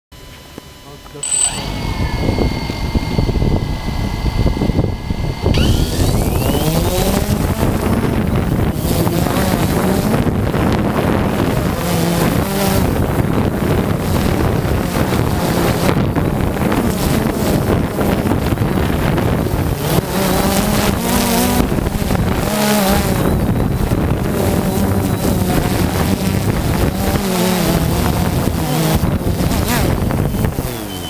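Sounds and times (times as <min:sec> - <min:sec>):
drone propellers buzzing: 0:00.2 - 0:31.0
wind buffeting microphone: 0:01.6 - 0:31.0.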